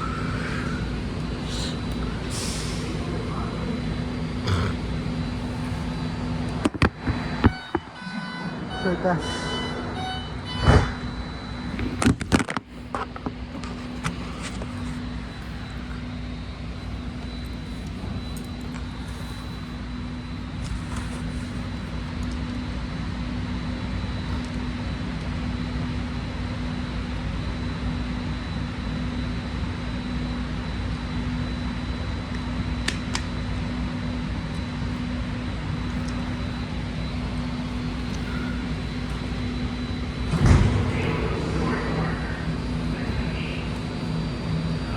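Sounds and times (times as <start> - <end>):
faint high whine: 0.0 - 26.3, 26.9 - 44.9
standing train hum: 0.0 - 44.9.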